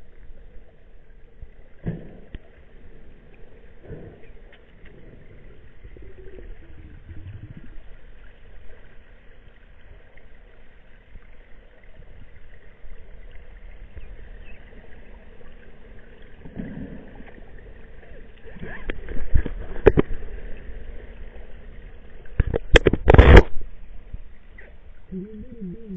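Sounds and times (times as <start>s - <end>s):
underwater pool ambience: 0.0s - 25.9s.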